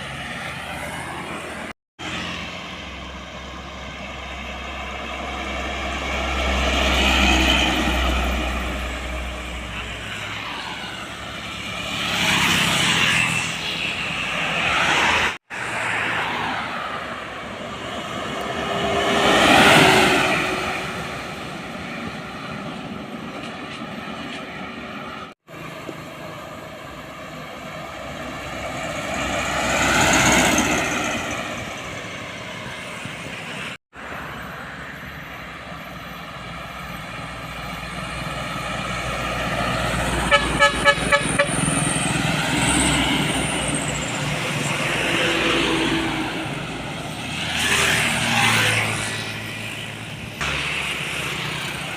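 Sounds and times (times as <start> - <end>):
heavy trucks driving past: 0.0 - 23.7, 25.0 - 51.9.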